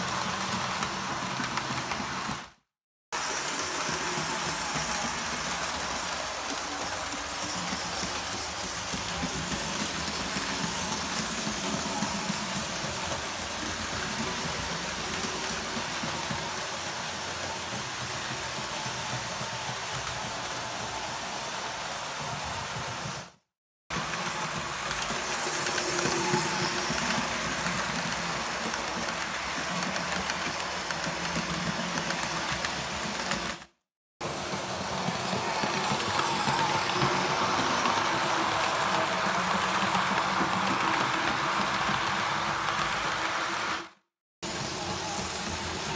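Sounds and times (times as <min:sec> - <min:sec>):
model train running on track: 0:00.0 - 0:02.6, 0:03.2 - 0:23.3, 0:23.9 - 0:45.9
wheels clicking on rails: 0:03.2 - 0:23.2, 0:23.9 - 0:45.9.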